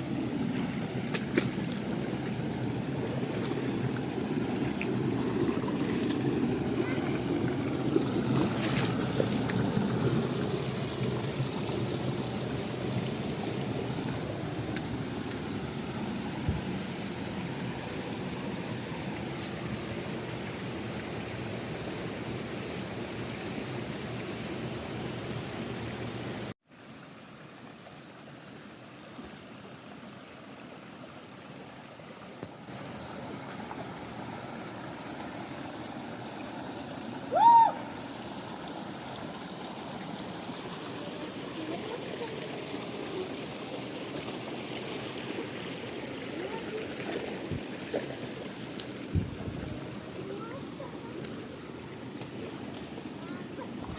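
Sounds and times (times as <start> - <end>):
waterfall and stream rushing: 0.0 - 53.9.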